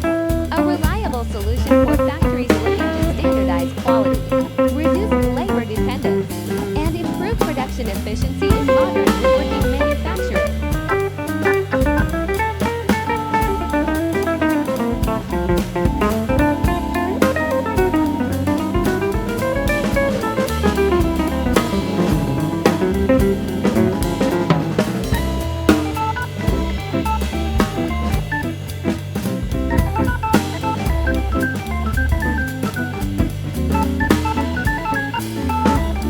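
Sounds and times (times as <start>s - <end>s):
bass: 0.0s - 36.0s
drum kit beat: 0.0s - 36.0s
guitar: 0.0s - 36.0s.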